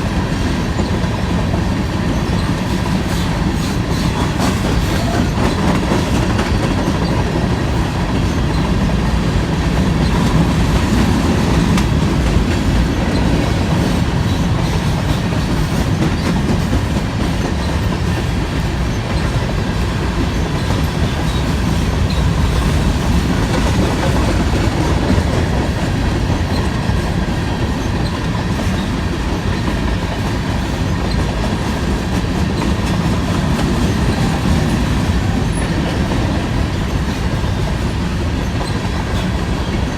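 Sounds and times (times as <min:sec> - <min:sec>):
freight train rolling past: 0:00.0 - 0:39.9
steel wheels on rails: 0:00.0 - 0:39.9.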